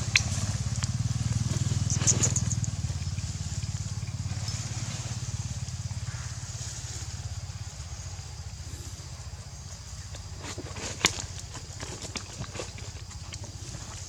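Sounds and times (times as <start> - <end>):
engine running with low throb: 0.0 - 14.0.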